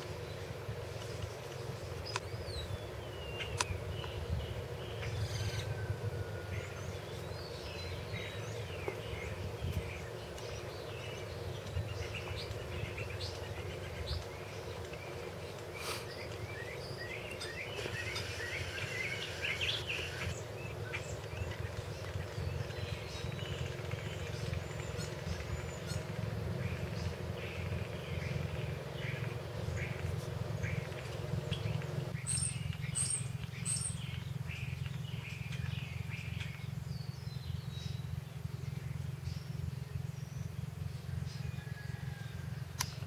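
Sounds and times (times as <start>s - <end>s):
low background hum: 0.0s - 43.0s
songbirds chirping: 0.0s - 43.0s.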